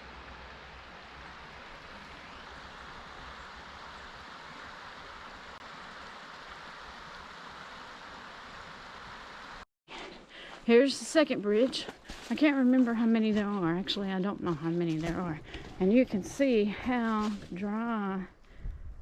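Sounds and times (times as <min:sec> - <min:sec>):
outdoor ambient noise: 0:00.0 - 0:19.0.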